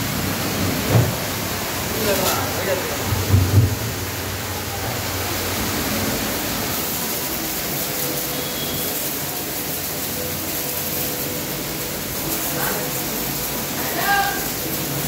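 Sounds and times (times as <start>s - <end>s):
pressure washer water hissing: 0.0s - 15.0s.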